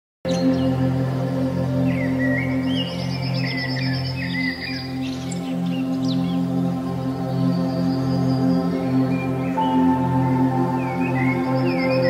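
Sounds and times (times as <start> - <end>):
slow ambient music: 0.3 - 12.0.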